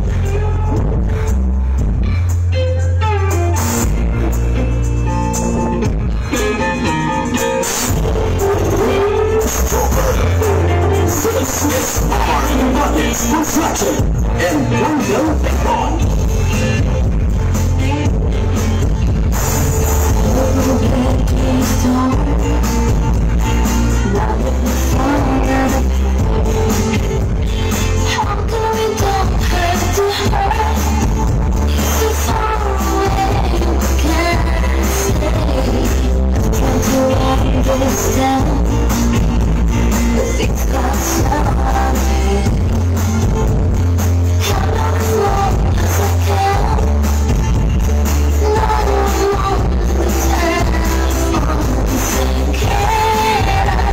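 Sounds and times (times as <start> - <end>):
heavy deep bass: 0.0 - 53.9
loud pop music with singing: 0.0 - 53.9.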